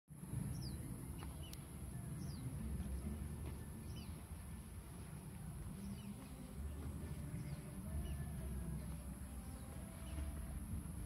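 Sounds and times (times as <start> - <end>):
steady low rumble: 0.1 - 11.0.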